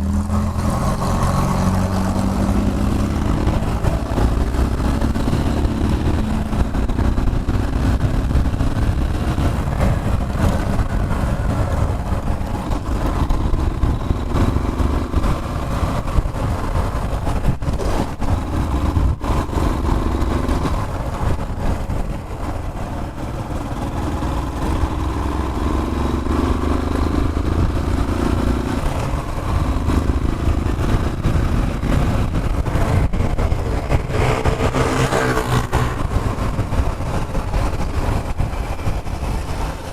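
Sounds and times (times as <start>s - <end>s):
heavy low rumble: 0.0s - 39.9s
motorcycle engine running: 0.0s - 39.9s.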